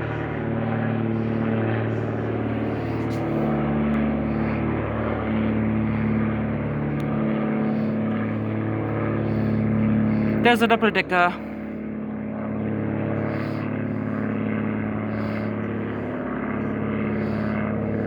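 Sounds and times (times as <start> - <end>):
propeller plane engine drone: 0.0 - 18.0.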